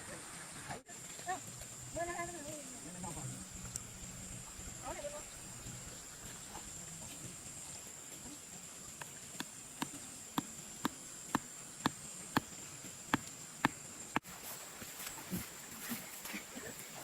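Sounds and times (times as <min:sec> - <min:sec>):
high-pitched insect drone: 0:00.9 - 0:16.1.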